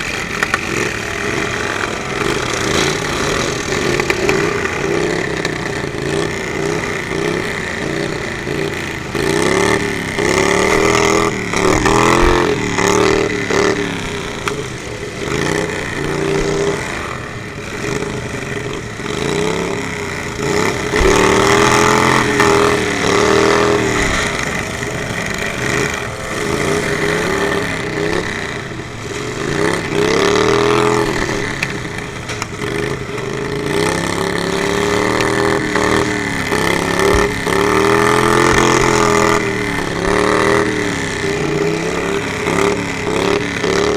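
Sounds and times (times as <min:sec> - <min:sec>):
lawnmower engines revving: 0:00.0 - 0:43.9.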